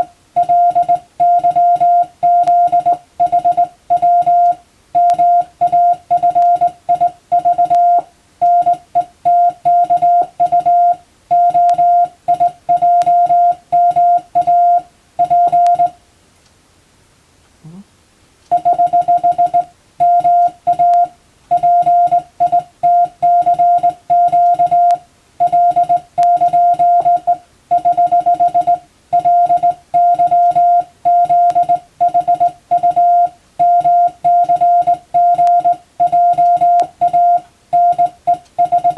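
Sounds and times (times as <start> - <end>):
morse code beeps: 0.0 - 16.0, 18.5 - 38.9.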